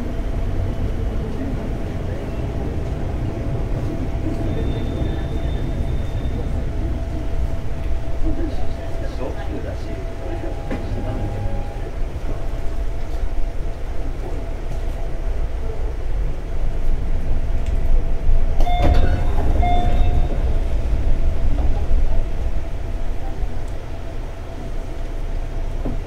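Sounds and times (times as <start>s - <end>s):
faint train whine: 0.0s - 26.0s
train wheels rumbling on rail: 0.0s - 26.0s.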